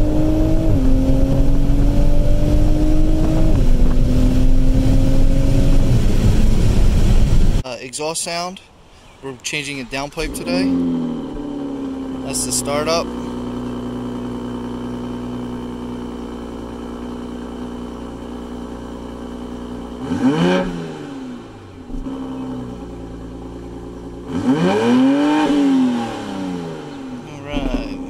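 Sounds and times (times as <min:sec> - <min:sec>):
car engine idling and revving: 0:00.0 - 0:07.6, 0:09.7 - 0:28.0.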